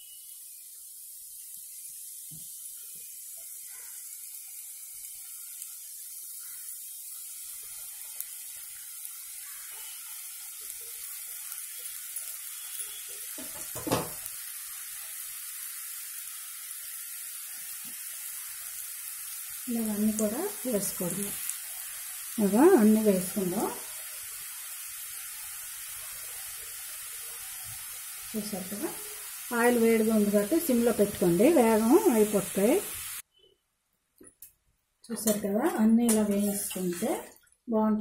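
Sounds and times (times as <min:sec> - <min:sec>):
dough deep-frying in hot oil: 0:00.0 - 0:33.5, 0:35.1 - 0:37.7.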